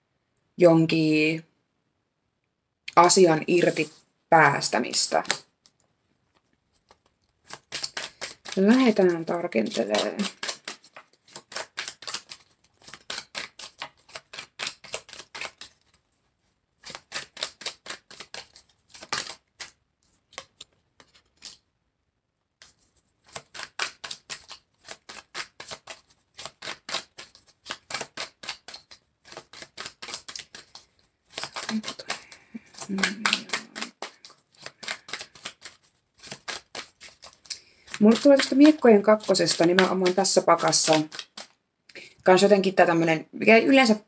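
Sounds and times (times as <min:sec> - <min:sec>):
cards being shuffled: 0:03.5 - 0:04.0, 0:04.7 - 0:16.1, 0:16.8 - 0:21.7, 0:22.6 - 0:41.6.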